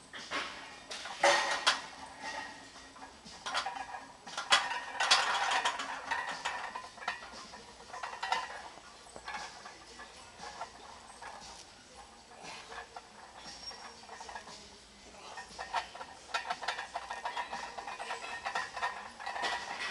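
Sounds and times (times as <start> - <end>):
weight plates clanking on barbell: 0.3 - 19.9.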